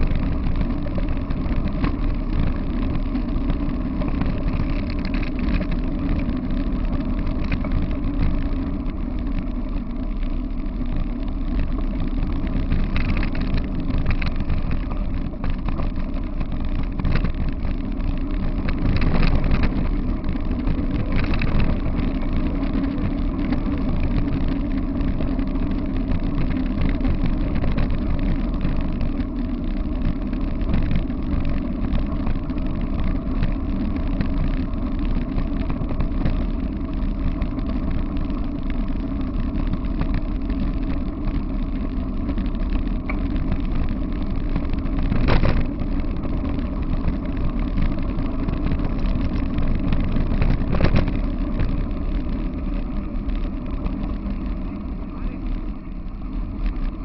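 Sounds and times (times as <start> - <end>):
wheels rolling over gravel: 0.0 - 57.0
wind rumble on microphone: 0.0 - 57.0.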